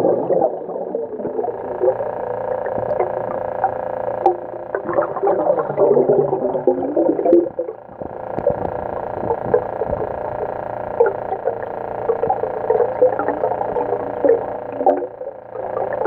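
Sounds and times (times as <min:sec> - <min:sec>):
muffled underwater hum: 0:00.0 - 0:16.0
water burbling and gurgling: 0:00.0 - 0:16.0
underwater clicks and ticks: 0:00.9 - 0:16.0.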